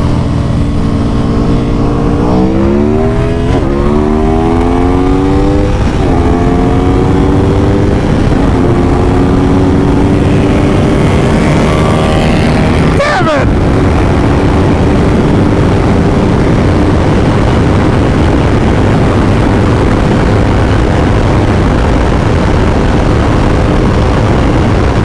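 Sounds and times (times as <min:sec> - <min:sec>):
motorcycle engine accelerating: 0:00.0 - 0:25.0
wind rushing over microphone: 0:00.0 - 0:25.0.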